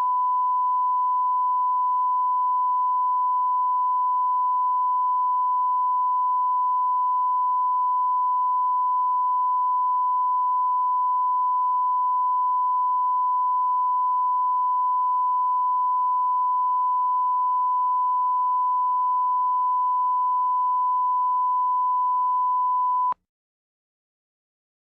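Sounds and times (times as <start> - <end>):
steady sine-wave test tone: 0.0 - 23.2.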